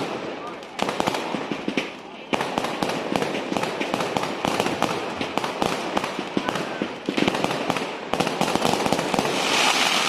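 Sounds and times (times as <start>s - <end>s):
fireworks popping and banging: 0.0s - 10.0s.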